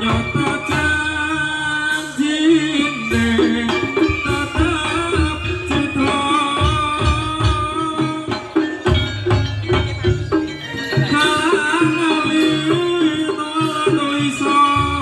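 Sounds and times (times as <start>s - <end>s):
gamelan ensemble music: 0.0s - 15.0s.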